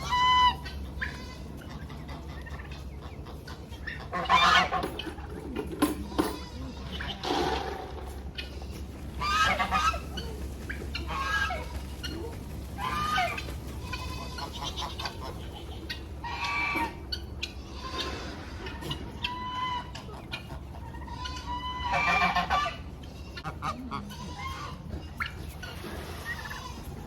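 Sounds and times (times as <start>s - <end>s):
poultry clucking and calling: 0.0s - 27.0s.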